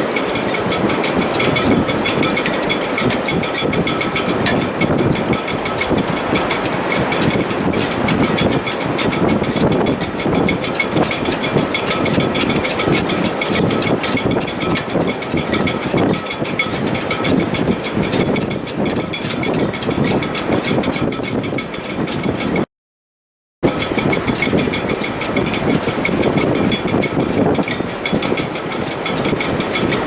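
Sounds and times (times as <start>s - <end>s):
wind gusting in rigging: 0.0s - 22.6s, 23.6s - 30.0s.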